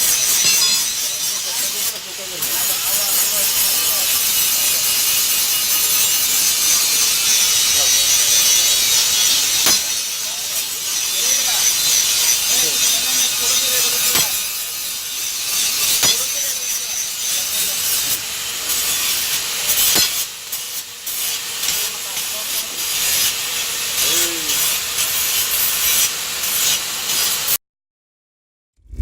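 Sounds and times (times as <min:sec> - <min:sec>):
tool rasping on material: 0:00.0 - 0:27.6.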